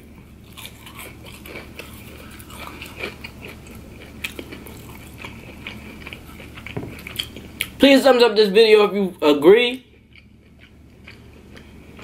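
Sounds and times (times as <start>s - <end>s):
chewing crunchy food: 0.1s - 7.8s, 9.8s - 12.0s.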